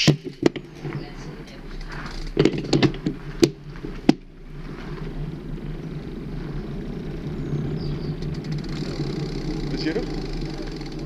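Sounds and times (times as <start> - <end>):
bike rolling over pavement: 0.0 - 11.0.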